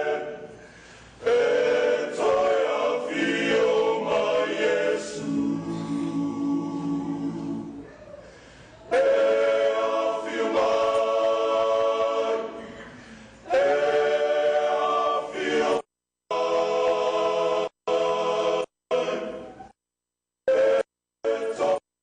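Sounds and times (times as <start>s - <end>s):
choir singing held chords: 0.0s - 19.7s, 20.5s - 21.8s.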